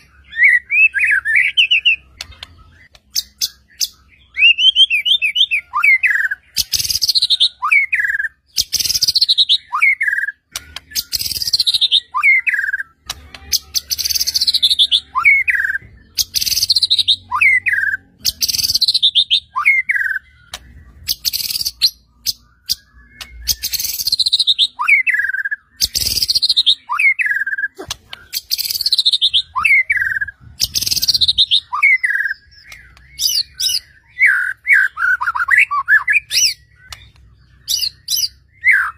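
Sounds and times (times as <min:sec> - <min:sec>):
bird singing whistled phrase: 0:00.0 - 0:38.9.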